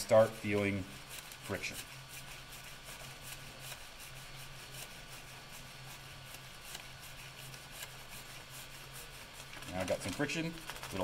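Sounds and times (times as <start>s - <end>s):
paper rubbing and rustling: 0.0s - 11.0s.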